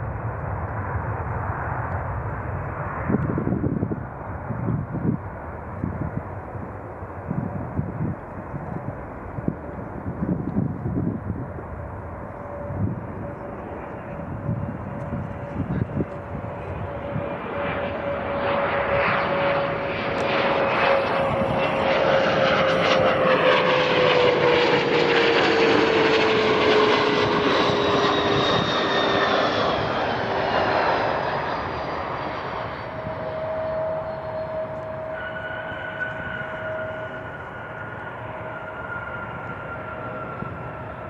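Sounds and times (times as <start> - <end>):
jet airliner passing: 0.0 - 41.0.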